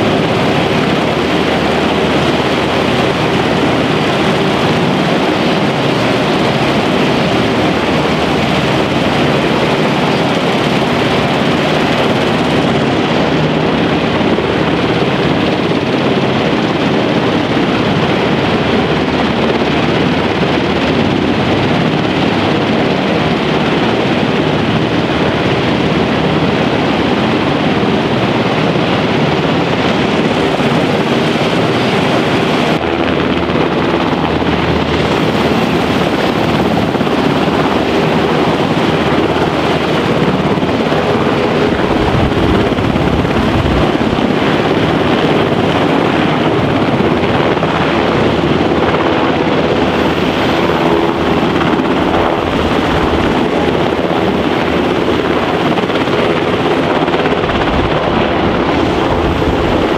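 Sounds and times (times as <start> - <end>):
helicopter rotor blades: 0.0 - 59.9
turbine engine whine: 0.0 - 59.9.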